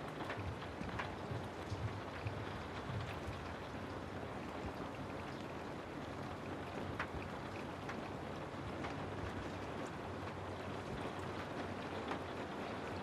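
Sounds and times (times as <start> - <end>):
raindrop taps: 0.0 - 5.4, 6.8 - 8.1, 8.7 - 13.0
steady rain on a house: 0.0 - 13.0.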